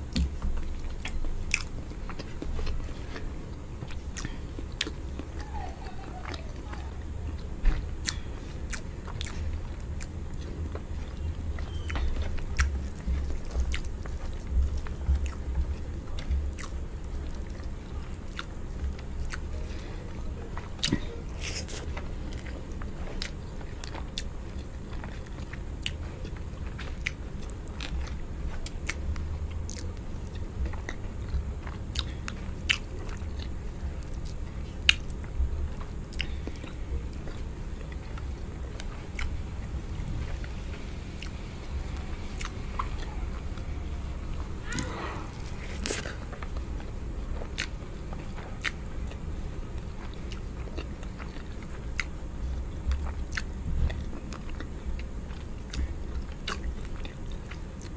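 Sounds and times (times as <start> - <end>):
chewing and mouth sounds: 0.0 - 57.9.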